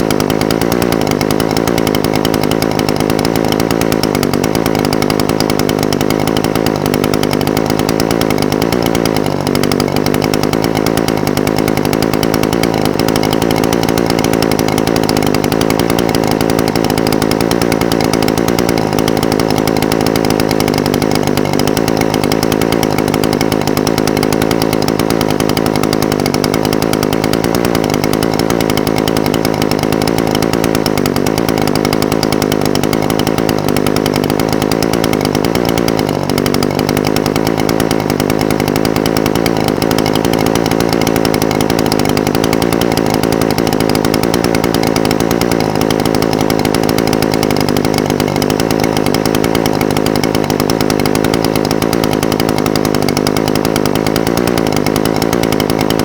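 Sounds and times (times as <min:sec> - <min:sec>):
two-stroke brush cutter idling: 0:00.0 - 0:56.0.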